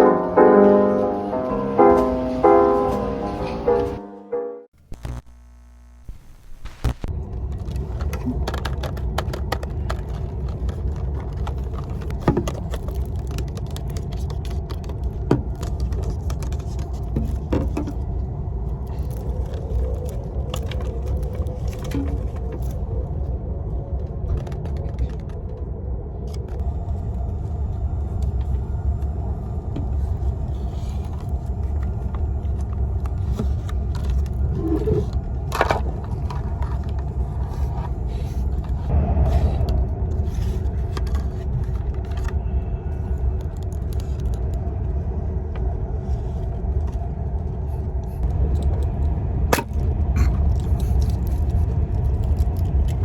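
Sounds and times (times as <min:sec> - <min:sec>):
vehicle interior low rumble: 0:07.1 - 0:53.0.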